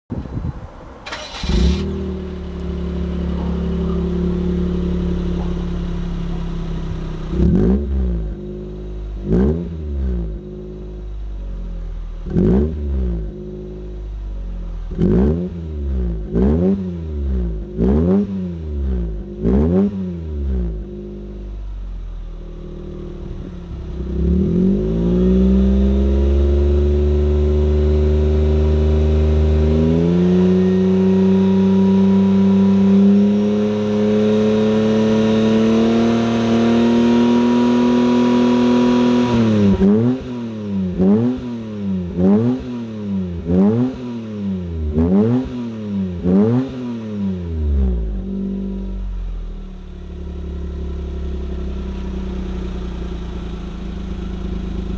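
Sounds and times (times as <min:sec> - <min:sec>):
car engine revving: 0:00.6 - 0:21.6, 0:22.2 - 0:54.9.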